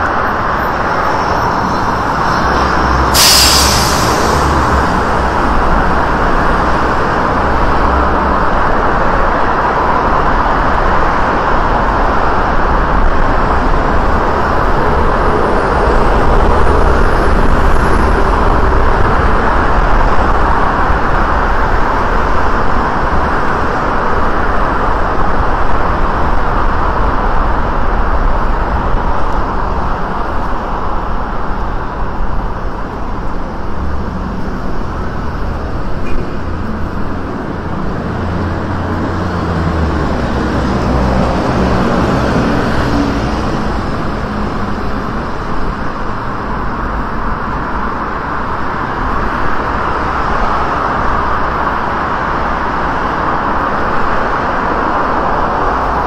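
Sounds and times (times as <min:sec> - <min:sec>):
heavy vehicle engine drone: 0:00.0 - 0:56.0
road traffic passing: 0:00.0 - 0:56.0.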